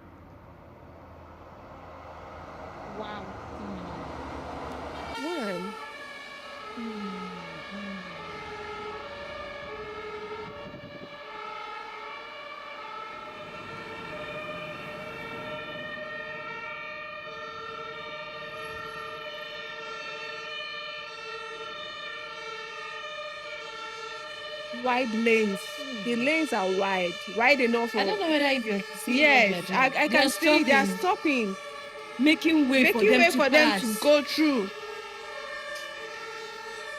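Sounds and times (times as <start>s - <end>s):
two-tone fire truck siren: 0.0s - 36.9s.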